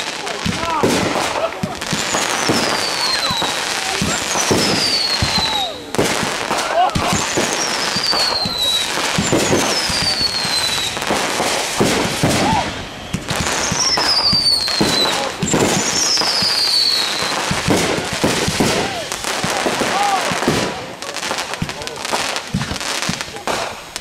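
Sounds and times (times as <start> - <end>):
fireworks crackling and popping: 0.0 - 24.0
fireworks whistles falling in pitch: 0.0 - 24.0.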